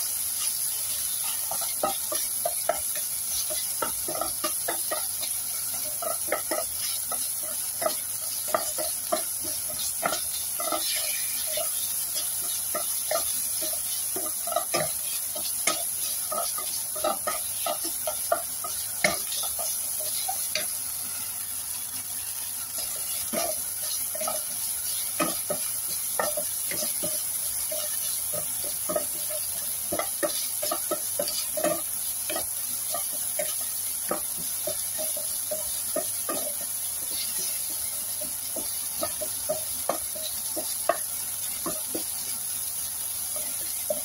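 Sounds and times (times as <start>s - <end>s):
meat sizzling in a frying pan: 0.0s - 44.0s
spatula clacking against pan: 0.3s - 21.4s, 22.2s - 44.0s
wooden spatula scraping a pan: 0.3s - 21.4s, 22.2s - 44.0s.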